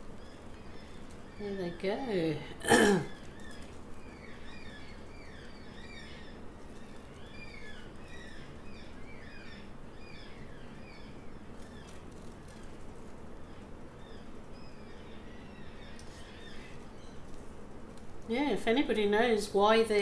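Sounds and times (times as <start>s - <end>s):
birds chirping: 0.0s - 20.0s
faint low hum: 0.0s - 20.0s.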